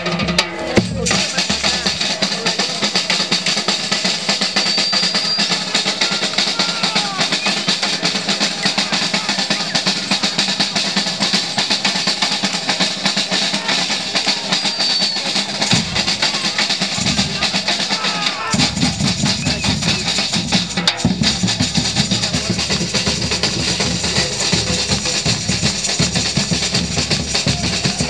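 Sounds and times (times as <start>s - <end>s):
live band music with fast drumming: 0.0s - 28.0s.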